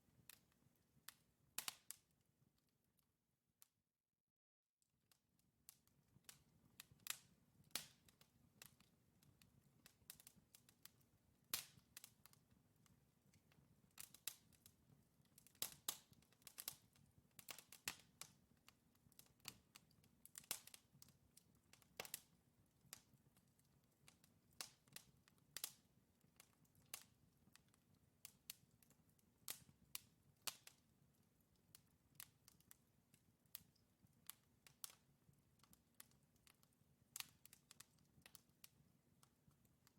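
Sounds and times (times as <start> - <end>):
logs crackling in a fireplace: 0.0 - 2.7, 5.1 - 39.9.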